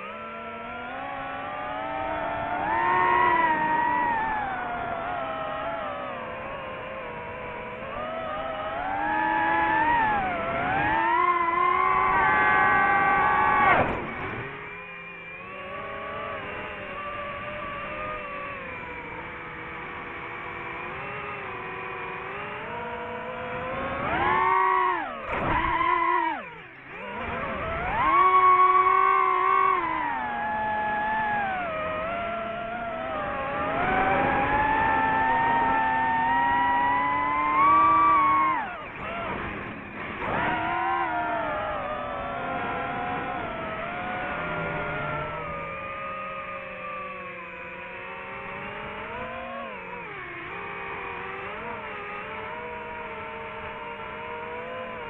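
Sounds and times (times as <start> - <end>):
drone propeller motors whining: 0.0 - 55.0.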